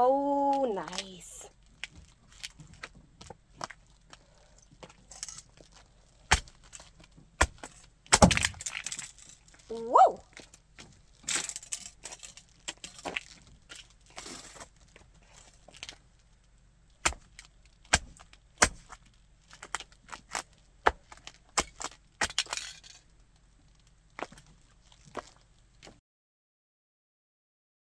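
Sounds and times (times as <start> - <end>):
crackly crunching: 0.5 - 26.0
plastic cracking and snapping: 1.6 - 25.4.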